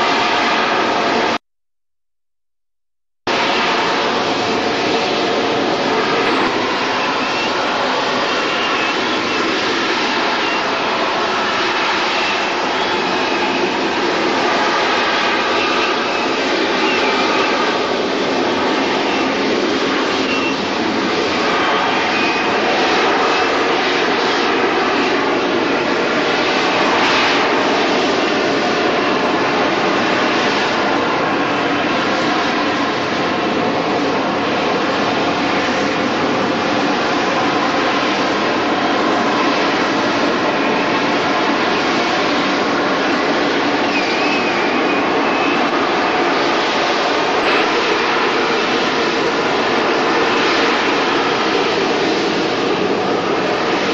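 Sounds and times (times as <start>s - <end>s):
jet engine running: 0.0s - 1.4s, 3.3s - 53.9s.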